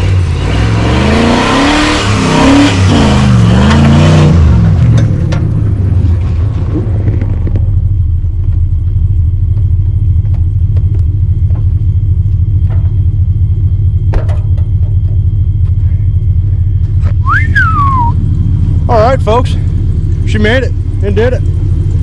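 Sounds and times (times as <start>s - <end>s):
buggy engine rumbling: 0.0s - 22.0s.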